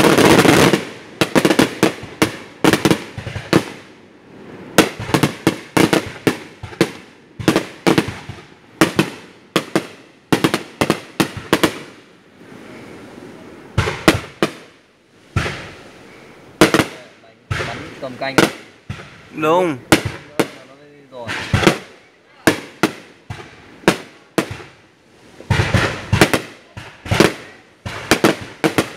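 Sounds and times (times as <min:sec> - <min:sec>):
fireworks bursting: 0:00.0 - 0:28.9.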